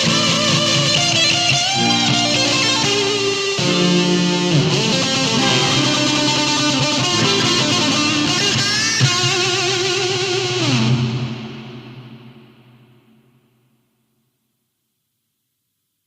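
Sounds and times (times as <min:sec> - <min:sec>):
guitar-led instrumental music: 0:00.0 - 0:13.4.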